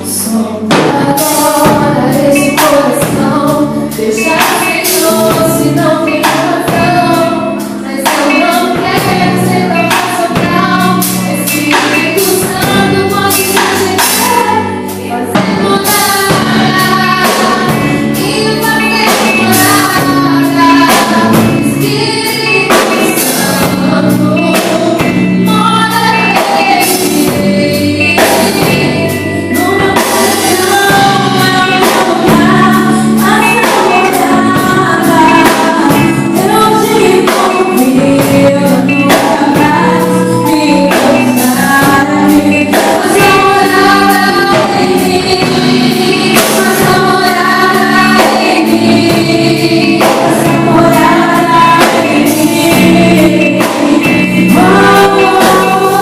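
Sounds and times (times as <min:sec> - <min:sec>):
women singing gospel song: 0:00.0 - 0:56.0
steady percussion: 0:00.2 - 0:56.0.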